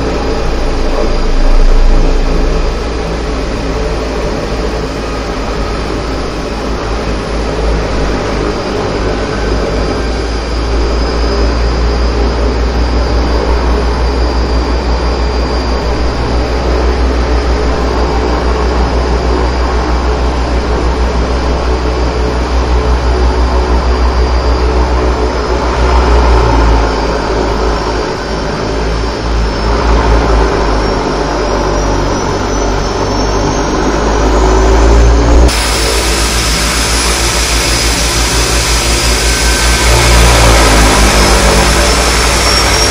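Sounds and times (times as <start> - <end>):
thin high whine: 0.0 - 42.9
turboprop engines running: 0.0 - 42.9.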